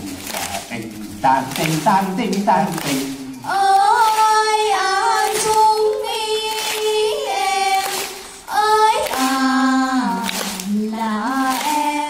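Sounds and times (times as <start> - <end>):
children singing folk tune: 1.0 - 12.0.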